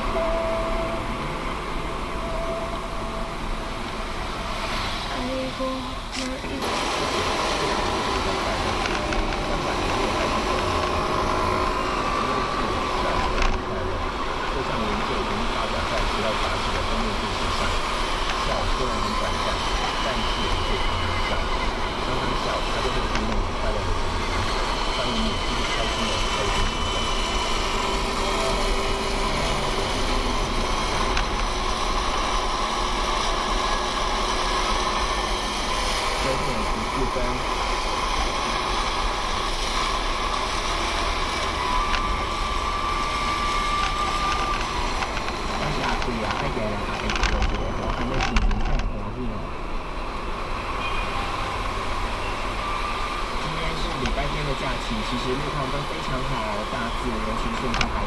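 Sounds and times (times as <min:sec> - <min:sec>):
car cabin road and engine noise: 0:00.0 - 0:58.0
faint steady tones: 0:00.0 - 0:58.0.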